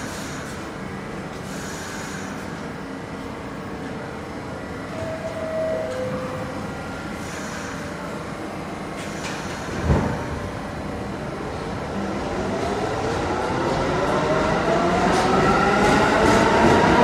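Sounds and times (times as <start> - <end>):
rising train whine: 0.0 - 17.0
subway train rumbling: 0.0 - 17.0.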